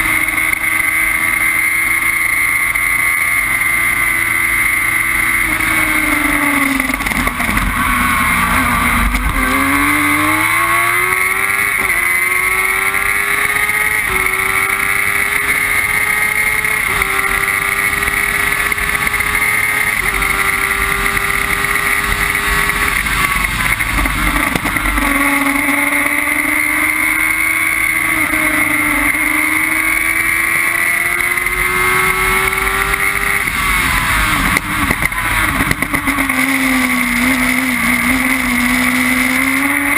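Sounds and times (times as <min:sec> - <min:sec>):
racing car engine at full throttle: 0:00.0 - 0:39.9.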